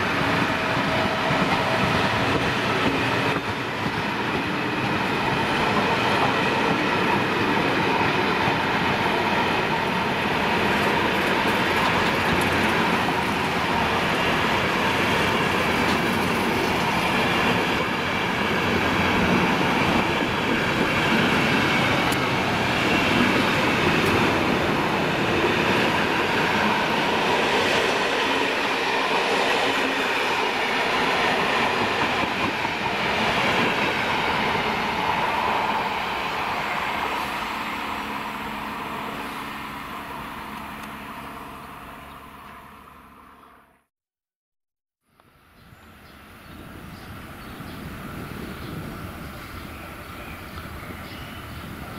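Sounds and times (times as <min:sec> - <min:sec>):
train wheels rumbling on rails: 0:00.0 - 0:43.3.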